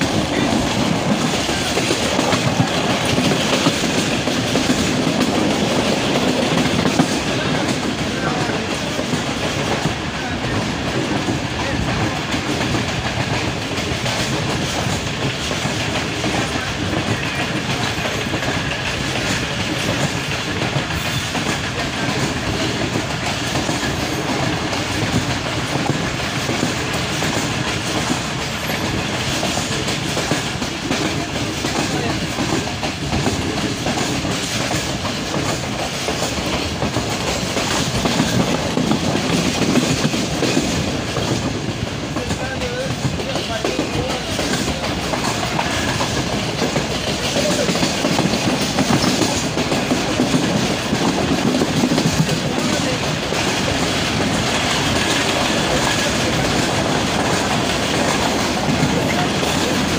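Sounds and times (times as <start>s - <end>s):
train rumbling on track: 0.0s - 59.9s
wheels clicking over rail joints: 0.0s - 59.9s.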